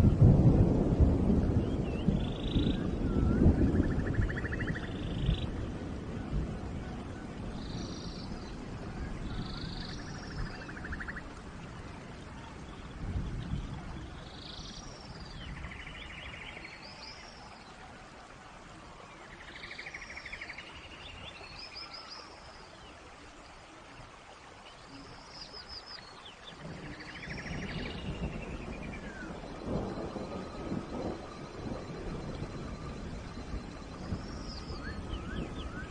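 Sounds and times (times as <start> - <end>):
rain hissing: 0.0 - 35.9
forest birds calling: 1.5 - 18.4, 19.0 - 23.1, 23.8 - 35.9.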